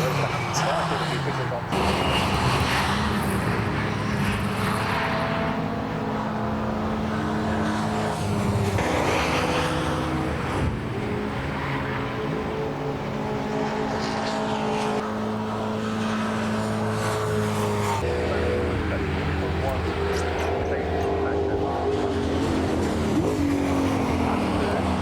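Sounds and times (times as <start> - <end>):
racing cars passing at high revs: 0.0 - 25.0.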